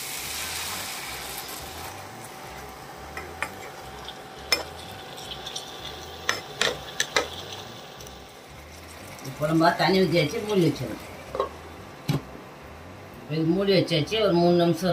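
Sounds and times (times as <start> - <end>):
vegetables sizzling in a frying pan: 0.0 - 12.1.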